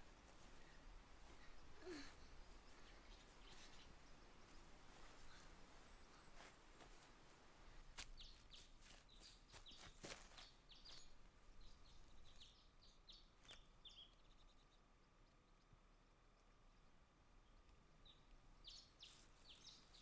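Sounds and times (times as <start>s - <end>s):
small bird chirping: 0.0s - 6.6s, 8.0s - 20.0s.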